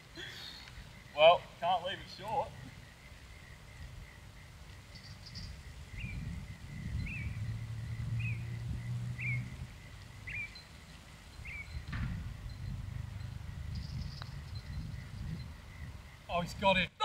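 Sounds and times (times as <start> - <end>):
bird chirping: 0.0 - 16.5
wind rumble on microphone: 2.7 - 16.8.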